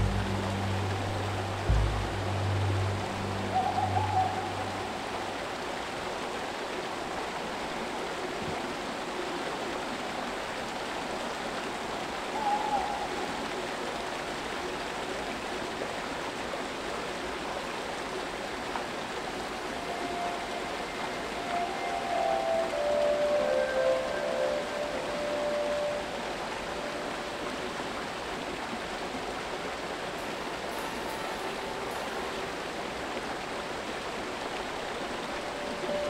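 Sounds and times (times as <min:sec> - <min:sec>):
stream water running among rocks: 0:00.0 - 0:36.0.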